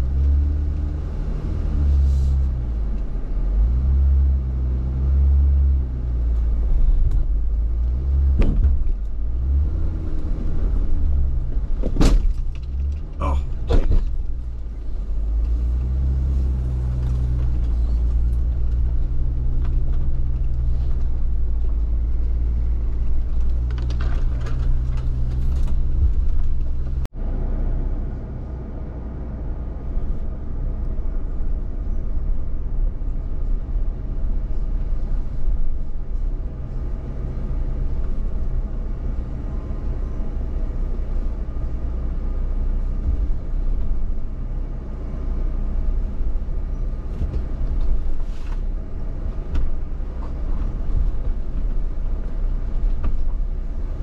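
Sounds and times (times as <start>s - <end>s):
engine rumbling: 0.0s - 54.0s.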